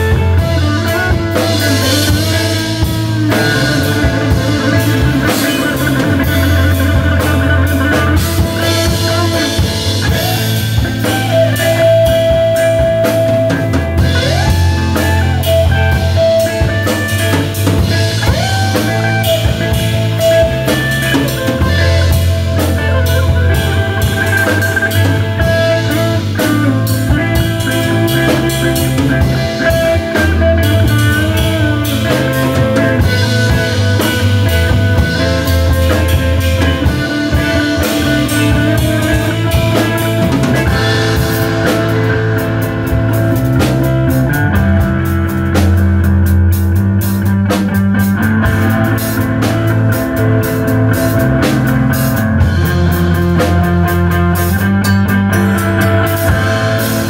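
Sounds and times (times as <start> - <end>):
drum kit playing: 0.0 - 57.0
low bass notes: 0.0 - 57.0.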